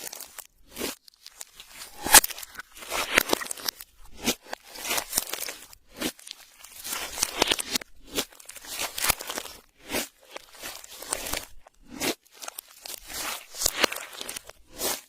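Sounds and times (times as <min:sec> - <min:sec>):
slime squishing with sticky crackles: 0:00.0 - 0:15.0.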